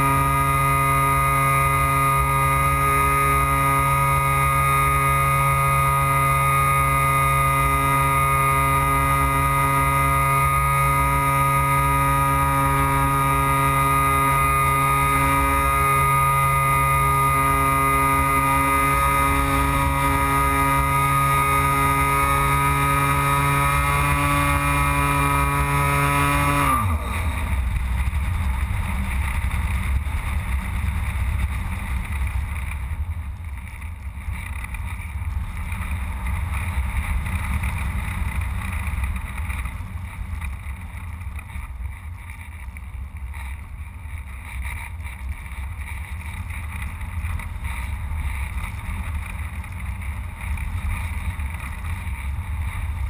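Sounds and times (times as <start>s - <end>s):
electric motor and propeller whining: 0.0s - 53.0s.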